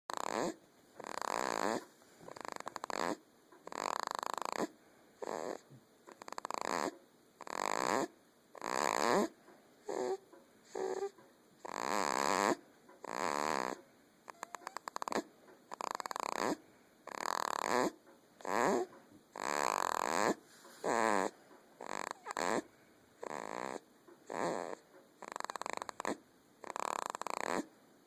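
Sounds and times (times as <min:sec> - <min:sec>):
rattling snores: 0:00.1 - 0:27.8.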